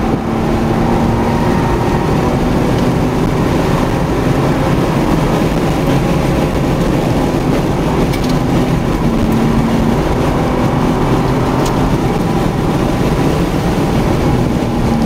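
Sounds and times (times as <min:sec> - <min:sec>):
car engine running: 0:00.0 - 0:15.0
wind and road noise: 0:00.0 - 0:15.0.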